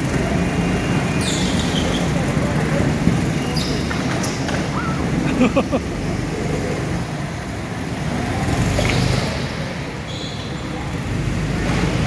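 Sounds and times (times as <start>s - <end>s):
go-kart motors droning: 0.0s - 12.0s.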